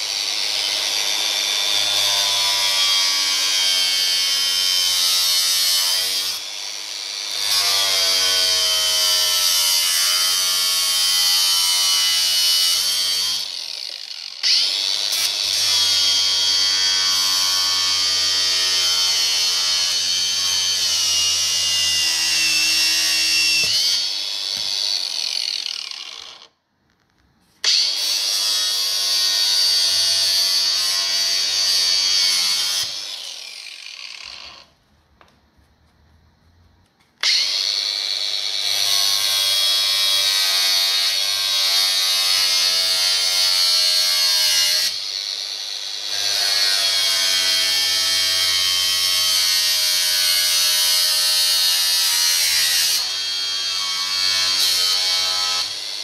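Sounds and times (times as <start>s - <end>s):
angle grinder cutting steel: 0.0s - 26.6s, 27.6s - 34.7s, 37.2s - 56.0s.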